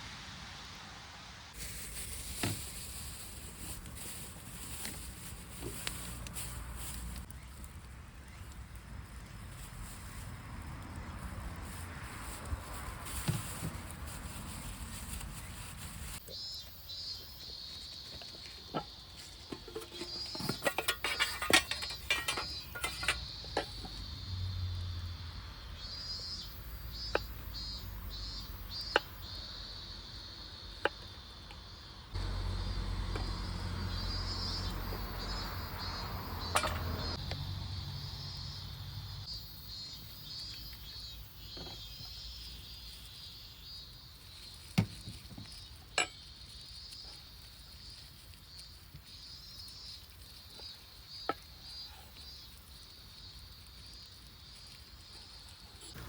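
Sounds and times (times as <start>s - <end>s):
insects chirring: 9.2s - 56.0s.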